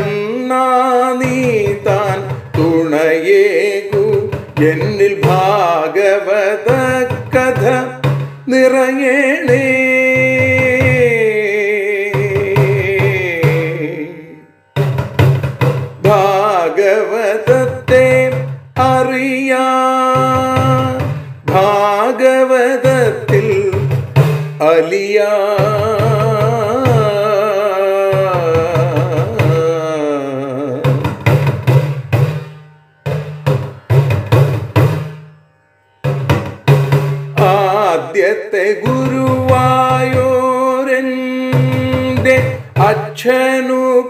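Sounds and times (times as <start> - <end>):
steady drumming: 0.0 - 14.0, 14.8 - 16.6, 17.3 - 27.5, 28.1 - 35.3, 36.1 - 38.2, 38.8 - 44.0
person singing devotional song: 0.0 - 14.6, 16.0 - 31.3, 37.3 - 44.0.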